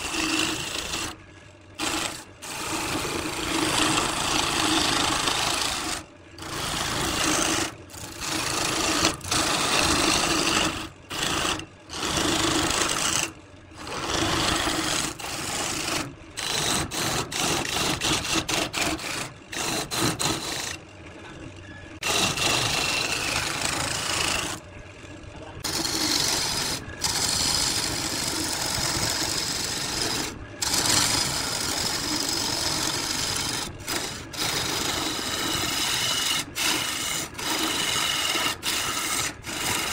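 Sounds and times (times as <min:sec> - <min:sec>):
lathe humming: 0:00.0 - 0:01.2, 0:01.8 - 0:24.8, 0:25.4 - 0:39.9.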